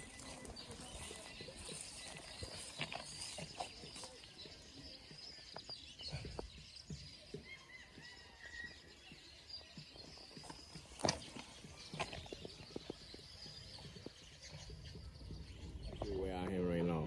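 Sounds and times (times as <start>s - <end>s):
birds chirping and twittering: 0.0s - 17.0s
outdoor ambience: 0.0s - 17.0s.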